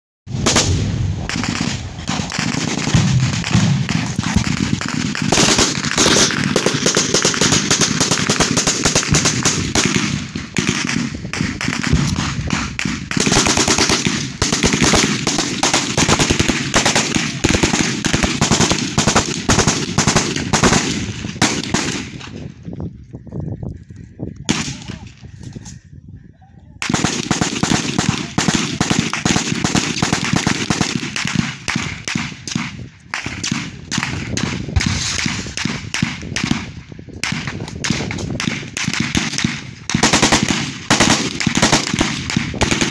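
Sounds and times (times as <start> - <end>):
automatic gunfire: 0.4 - 22.2, 26.8 - 36.6, 37.2 - 42.9.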